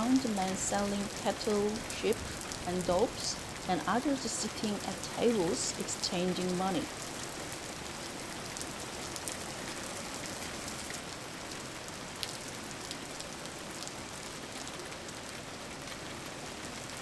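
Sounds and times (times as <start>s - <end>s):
raindrop ticks: 0.0s - 14.0s
steady rain hiss: 0.0s - 17.0s.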